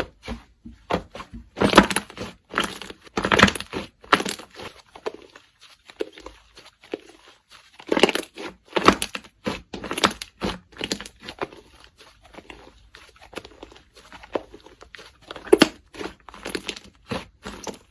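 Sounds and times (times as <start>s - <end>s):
slime crackling and popping: 1.6s - 17.9s.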